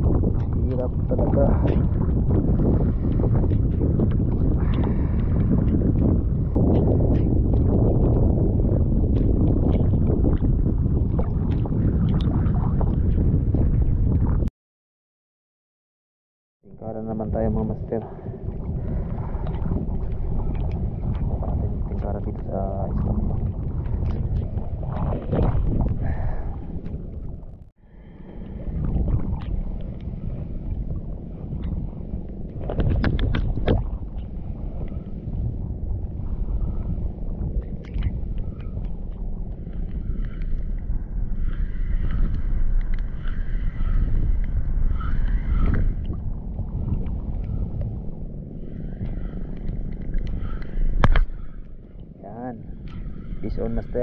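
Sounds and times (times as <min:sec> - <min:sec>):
choppy sea water: 0:00.0 - 0:14.5, 0:16.7 - 0:54.0
wind rumbling on microphone: 0:00.0 - 0:14.5, 0:16.6 - 0:54.0.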